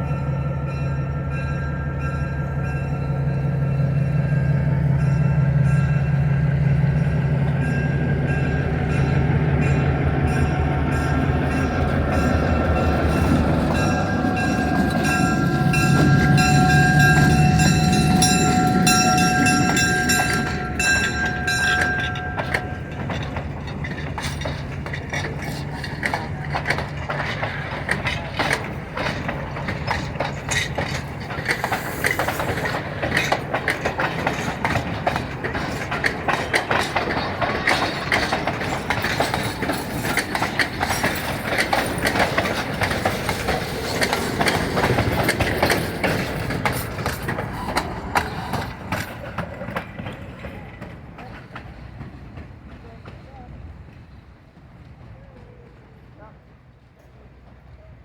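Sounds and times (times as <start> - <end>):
train engine hum: 0.0 - 58.0
train cars clattering over rails: 2.0 - 56.3.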